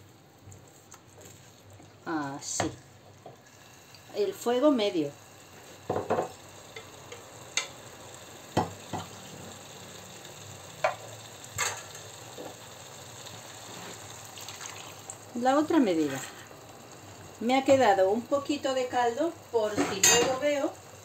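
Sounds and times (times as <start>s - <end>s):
paella simmering with low sizzle: 0.0s - 21.0s.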